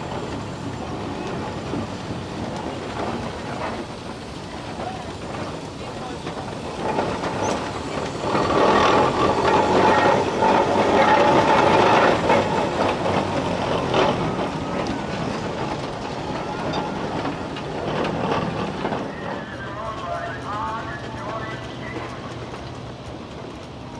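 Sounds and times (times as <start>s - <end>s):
steam engine running: 0.0s - 23.9s.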